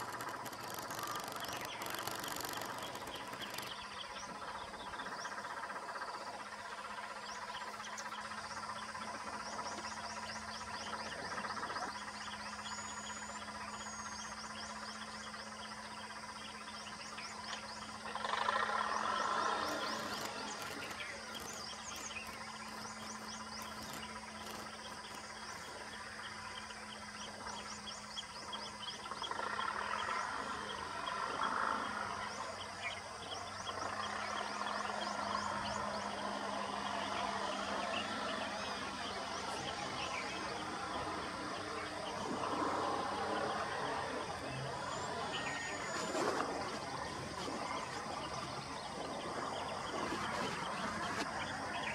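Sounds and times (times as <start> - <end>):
insects chirping: 0.0 - 51.9
steady low hum: 0.0 - 51.9.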